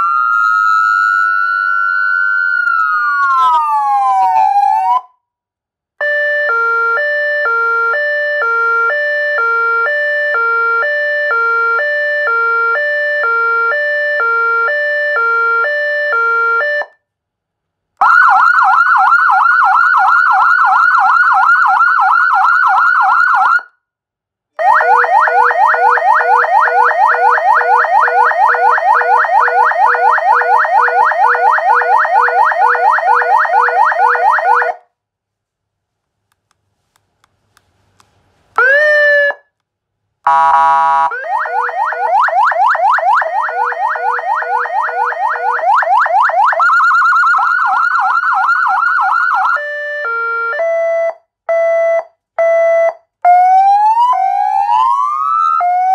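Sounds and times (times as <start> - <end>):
electronic siren: 0.0 - 5.1, 6.0 - 17.0, 18.0 - 23.7, 24.6 - 34.8, 38.6 - 39.4, 40.3 - 55.9.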